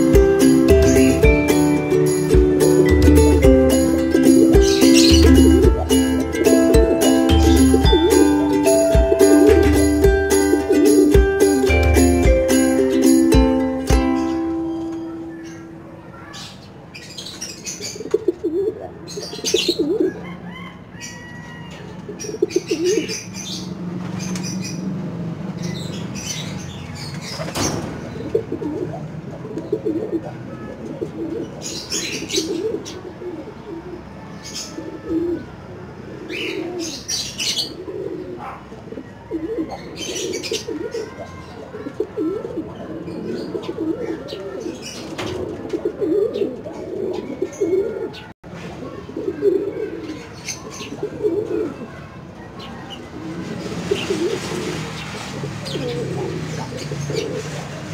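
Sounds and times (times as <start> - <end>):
pigeons cooing: 0.0 - 15.8, 17.6 - 23.6, 27.2 - 57.9.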